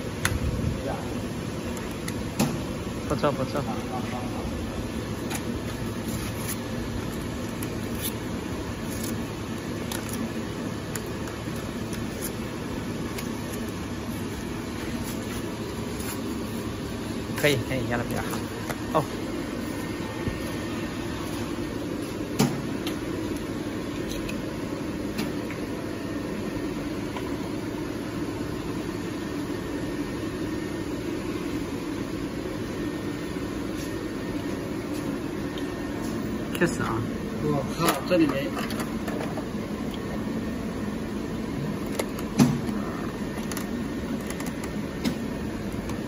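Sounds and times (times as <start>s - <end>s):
packaging machine humming: 0.0s - 46.0s.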